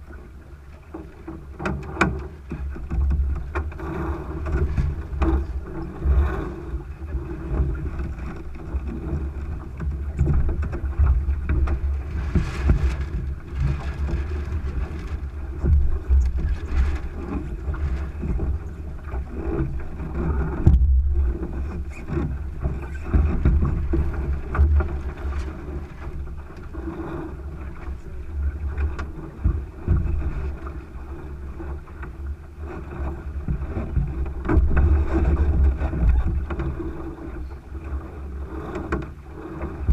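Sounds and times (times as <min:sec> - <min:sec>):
boat knocks and rattles: 0:00.0 - 0:39.9
water rushing along a hull: 0:00.0 - 0:39.9
wind buffeting microphone: 0:01.5 - 0:39.9.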